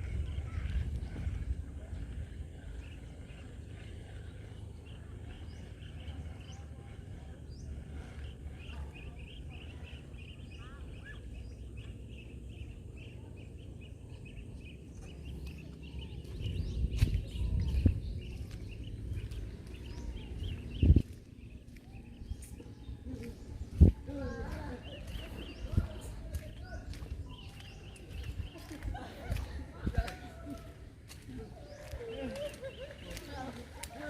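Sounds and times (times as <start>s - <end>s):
wind rumble on microphone: 0.0s - 10.7s, 11.4s - 34.0s
birds chirping: 0.0s - 34.0s.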